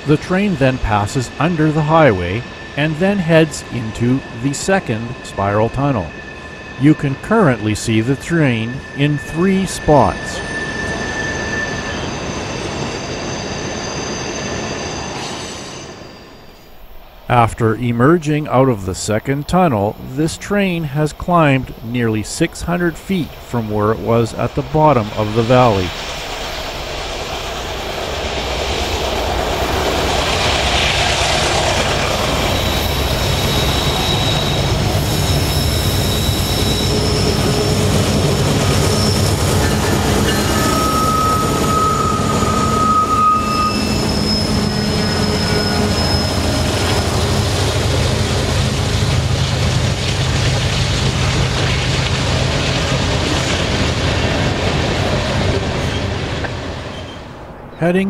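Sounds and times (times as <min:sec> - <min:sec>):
diesel locomotive rumble: 0:00.0 - 0:13.7, 0:16.8 - 0:57.7
freight cars rolling by: 0:00.0 - 0:15.0, 0:15.6 - 0:57.9
high wheel squeals: 0:00.0 - 0:21.8, 0:22.4 - 0:49.4, 0:53.5 - 0:57.5.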